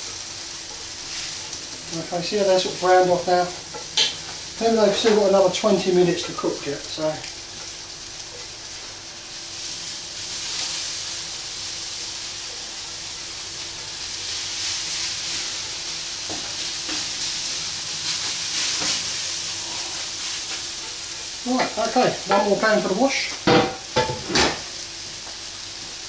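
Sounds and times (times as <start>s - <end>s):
onions and liver sizzling in pans: 0.0s - 26.0s.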